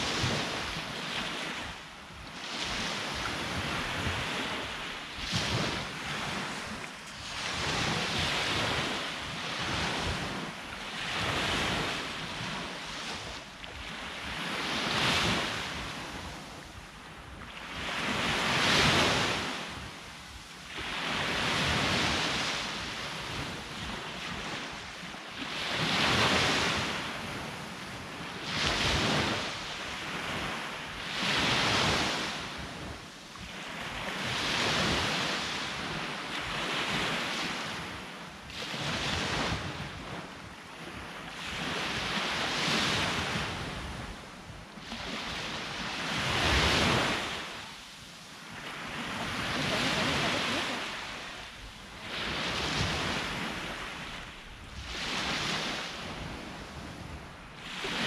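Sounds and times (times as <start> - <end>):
wind buffeting microphone: 0.0 - 47.5, 48.5 - 58.0
sea waves breaking on shore: 0.0 - 58.0.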